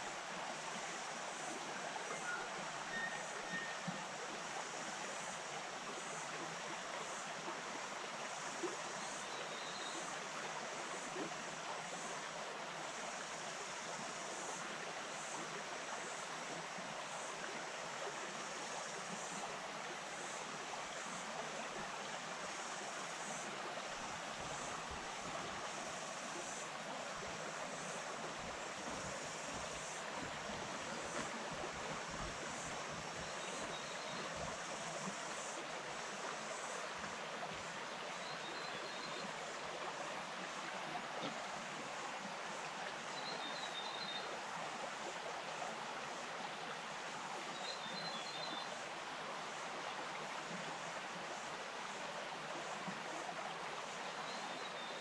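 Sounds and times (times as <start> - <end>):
faint high hiss: 0.0 - 55.0
stream flowing over stones: 0.0 - 55.0.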